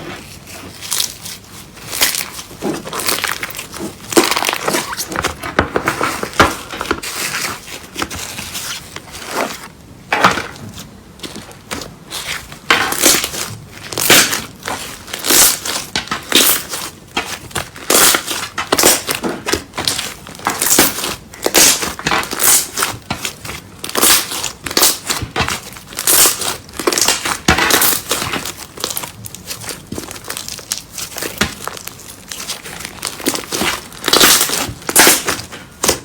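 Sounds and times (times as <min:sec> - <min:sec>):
slime squishing and crackling: 0:00.0 - 0:36.0.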